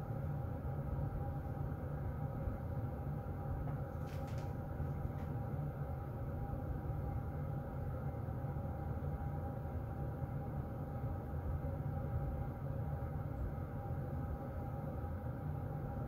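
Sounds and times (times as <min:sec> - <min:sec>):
heater vent blowing air: 0:00.0 - 0:16.0.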